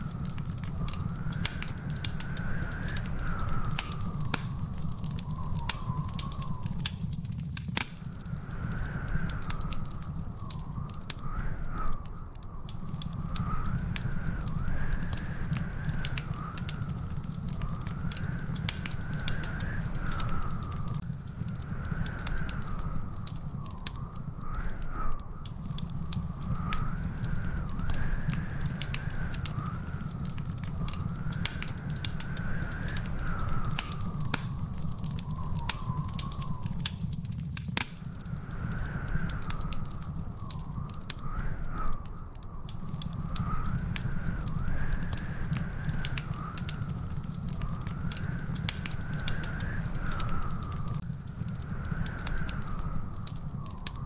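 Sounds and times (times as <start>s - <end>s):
thin wavering whistling tone: 0.0s - 7.3s, 8.0s - 21.0s, 21.8s - 37.3s, 38.0s - 54.0s
wood fire crackling and popping: 0.0s - 54.0s.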